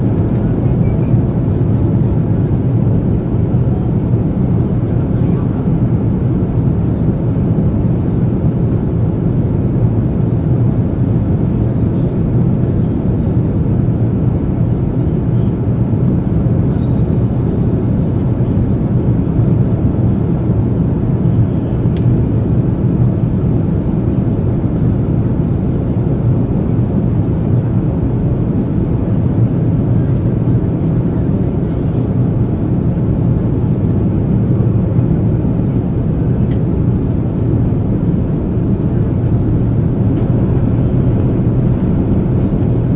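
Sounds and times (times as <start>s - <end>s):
airplane cabin engine and airflow rush: 0.0s - 42.9s.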